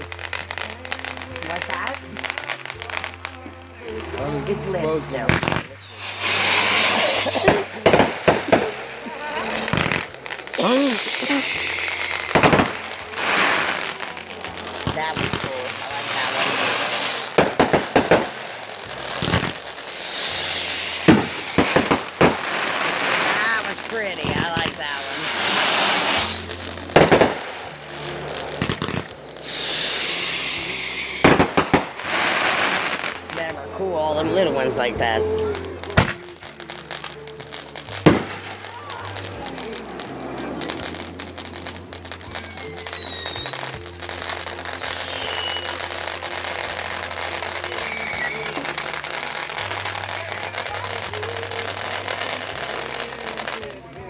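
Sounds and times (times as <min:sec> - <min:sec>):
firework bangs: 0:00.0 - 0:54.0
firework crackles: 0:00.0 - 0:54.0
firework whistle: 0:00.0 - 0:54.0.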